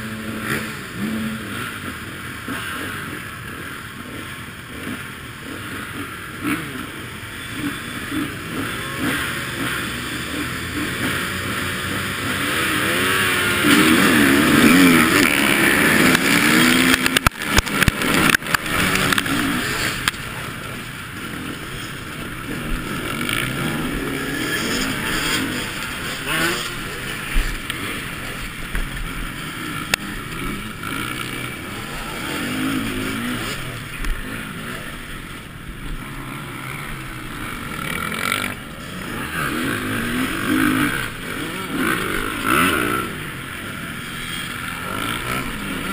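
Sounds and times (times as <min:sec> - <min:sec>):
motocross bikes racing: 0:00.0 - 0:45.9
motorbike engine revving: 0:00.0 - 0:45.9.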